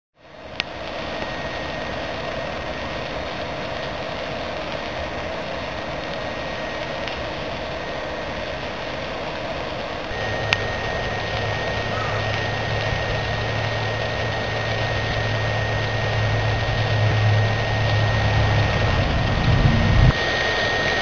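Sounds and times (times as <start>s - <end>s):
stove fan whirring: 0.2s - 21.0s.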